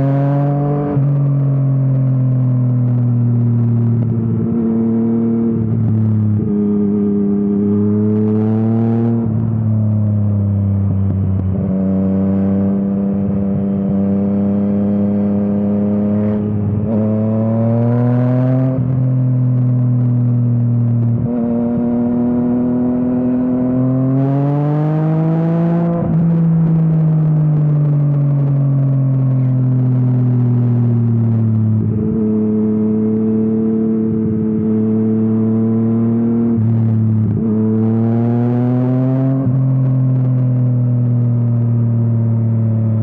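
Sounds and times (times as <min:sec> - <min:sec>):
motorcycle engine revving: 0:02.2 - 0:43.0.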